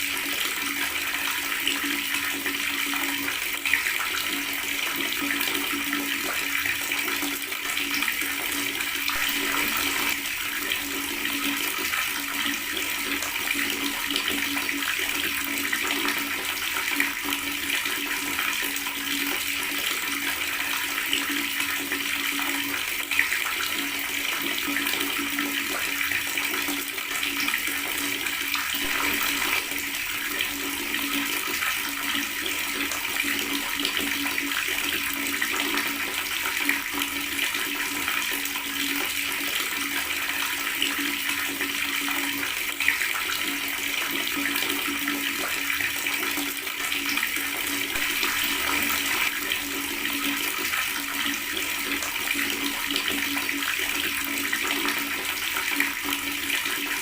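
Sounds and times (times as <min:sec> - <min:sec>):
water tap running and gurgling: 0:00.0 - 0:57.0.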